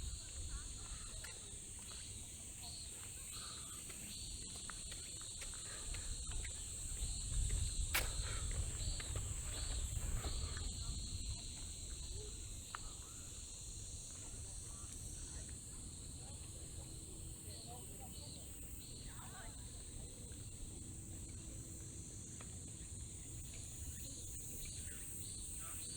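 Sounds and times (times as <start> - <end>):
cricket trill: 0.0 - 25.9
insect chirping: 0.0 - 25.9.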